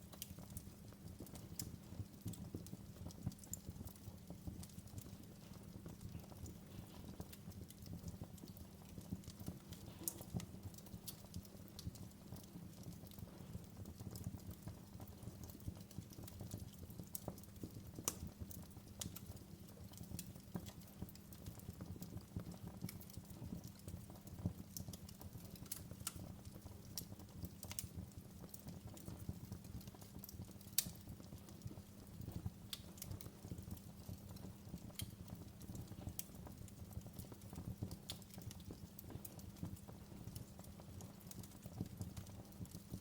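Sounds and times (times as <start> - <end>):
low rumble of flames: 0.0 - 43.0
wood fire crackling: 0.0 - 43.0.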